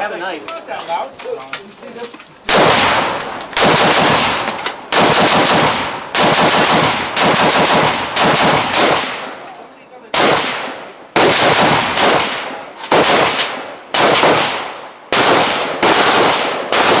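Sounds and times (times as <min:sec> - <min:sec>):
rifle shots echoing: 0:02.4 - 0:17.0.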